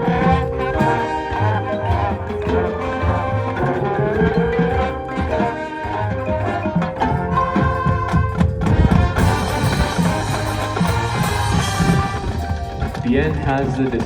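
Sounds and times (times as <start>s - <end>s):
marching band music: 0.0s - 14.0s.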